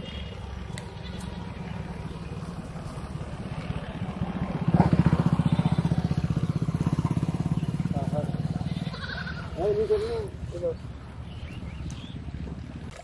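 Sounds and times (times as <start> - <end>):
small engine puttering: 0.1 - 10.8.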